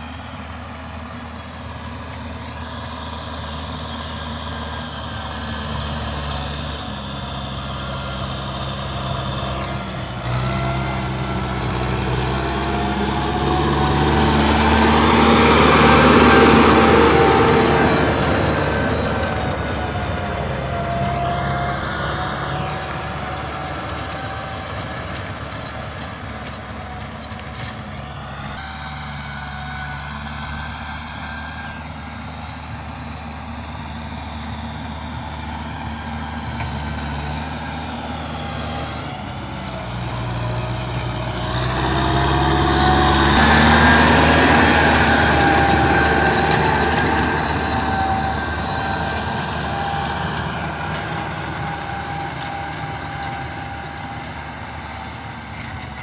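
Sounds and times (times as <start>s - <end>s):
tiller churning soil: 0.0s - 56.0s
tractor diesel engine running: 0.0s - 56.0s.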